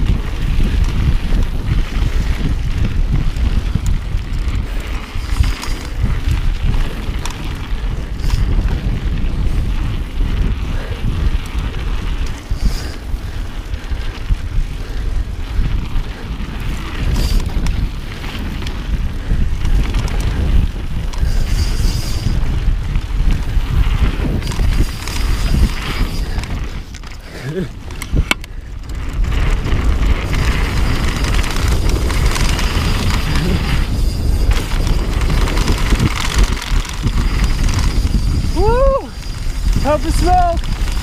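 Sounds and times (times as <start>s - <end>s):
bike rattling over bumps: 0.0s - 41.0s
wind buffeting microphone: 0.0s - 41.0s.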